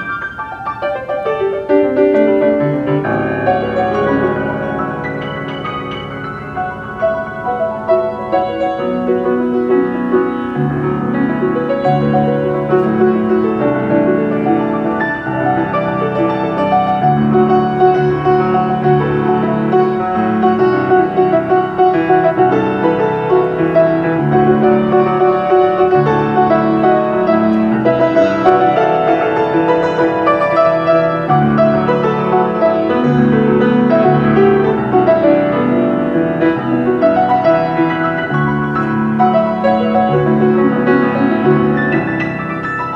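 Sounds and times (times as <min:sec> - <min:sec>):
solo jazz piano: 0:00.0 - 0:42.9.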